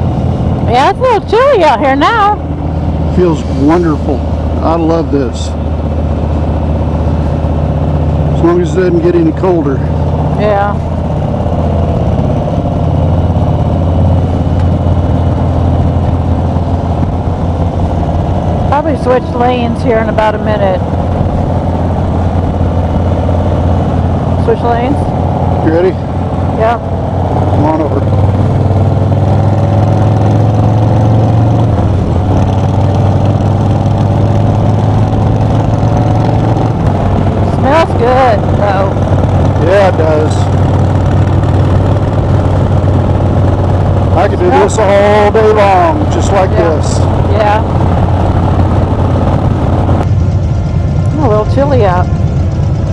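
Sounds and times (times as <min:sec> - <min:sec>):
motorcycle engine running: 0:00.0 - 0:52.9
wind noise: 0:09.8 - 0:52.9.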